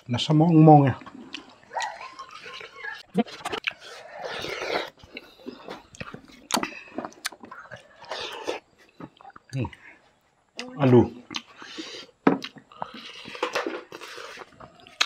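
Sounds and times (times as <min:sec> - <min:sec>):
wet chewing and lip smacks: 0:01.0 - 0:09.9, 0:10.5 - 0:15.0.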